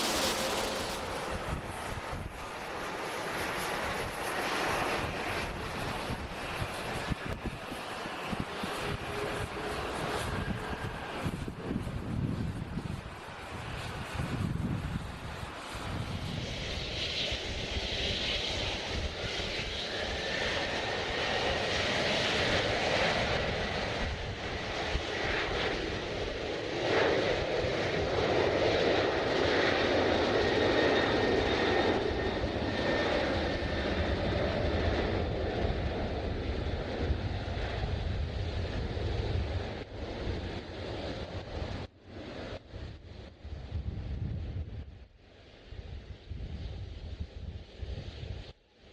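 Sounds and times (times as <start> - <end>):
airliner engines passing: 0.0 - 48.9.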